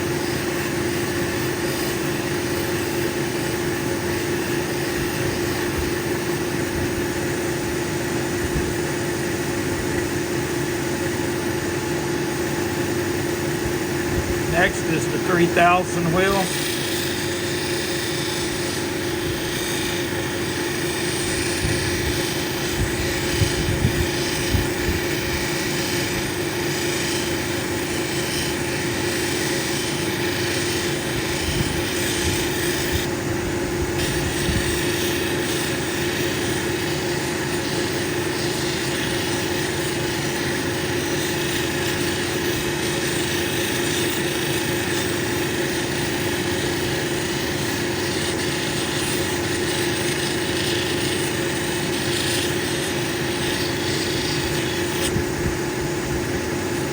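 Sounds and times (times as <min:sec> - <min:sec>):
grinding machine motor humming: 0:00.0 - 0:56.9.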